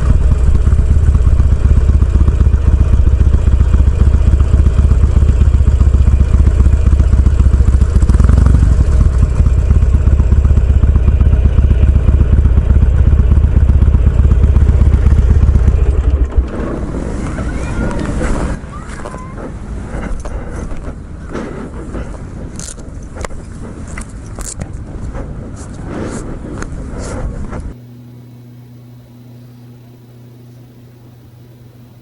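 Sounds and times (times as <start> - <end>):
motorcycle engine rumbling: 0.0 - 32.0.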